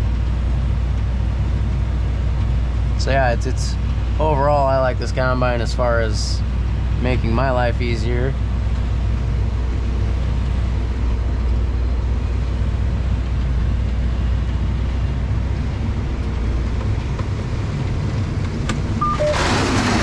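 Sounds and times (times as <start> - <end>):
tractor engine droning: 0.0 - 20.0.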